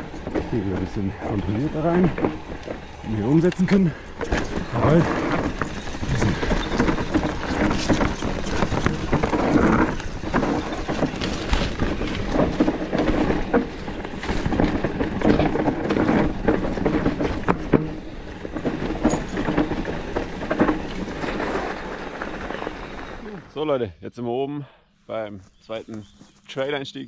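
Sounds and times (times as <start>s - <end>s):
bike rattling and knocking: 0.0s - 23.3s
tyres rushing on dirt: 0.0s - 23.7s.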